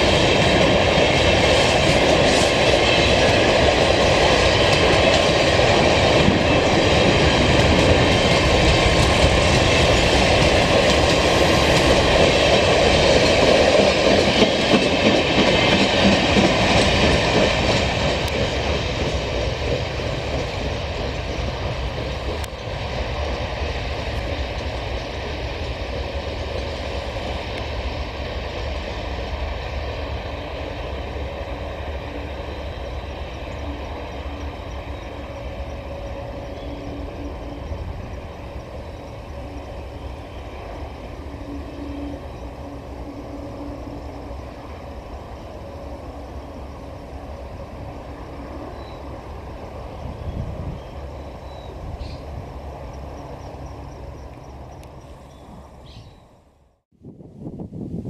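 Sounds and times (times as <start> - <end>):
train wheels rolling on rails: 0.0 - 56.3.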